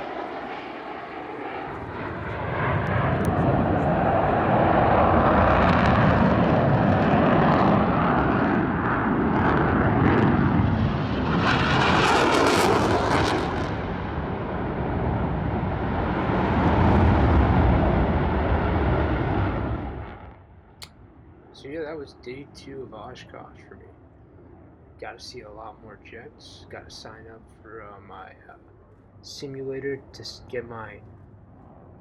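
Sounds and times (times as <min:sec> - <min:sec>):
airplane engine roar: 0:00.0 - 0:32.0.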